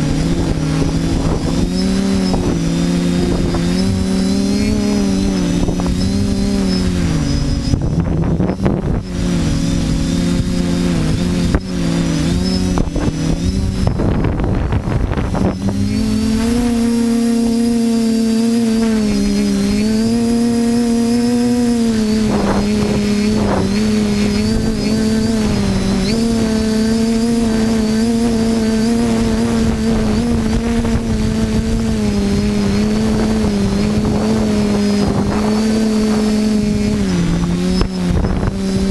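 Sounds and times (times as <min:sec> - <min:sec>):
drone propellers buzzing: 0:00.0 - 0:38.9
gusty wind rumble: 0:00.0 - 0:38.9.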